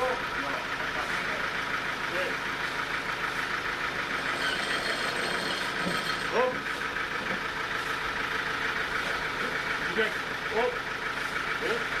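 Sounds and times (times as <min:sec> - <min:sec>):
sawmill machinery droning: 0:00.0 - 0:12.0.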